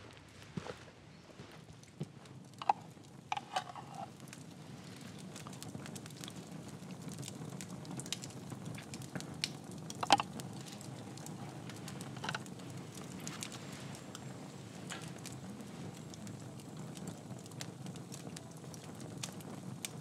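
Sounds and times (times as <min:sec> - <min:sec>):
campfire crackling and popping: 0:01.5 - 0:20.0.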